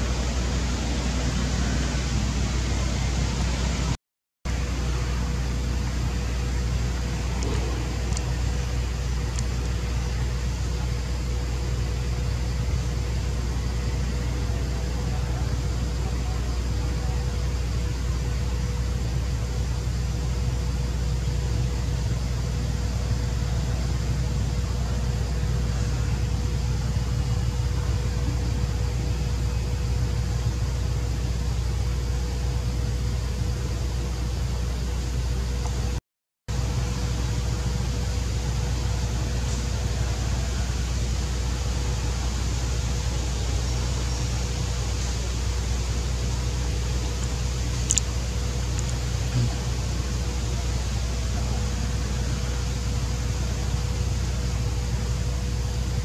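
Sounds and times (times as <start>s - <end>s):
faint steady hum: 0.0s - 56.0s
low background rumble and hiss: 0.0s - 56.0s.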